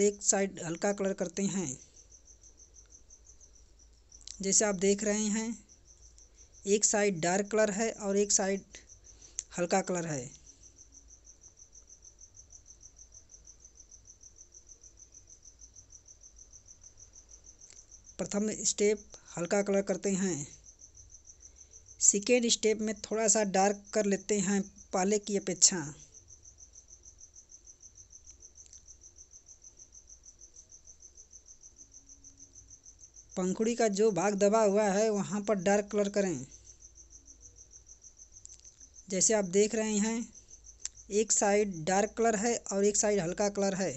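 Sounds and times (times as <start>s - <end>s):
cricket chirping: 0.0s - 43.9s.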